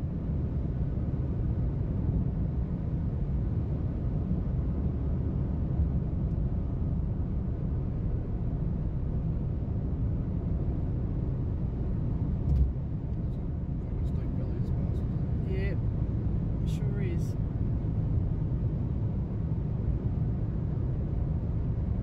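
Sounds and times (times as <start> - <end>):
car road and tyre noise: 0.0 - 22.0.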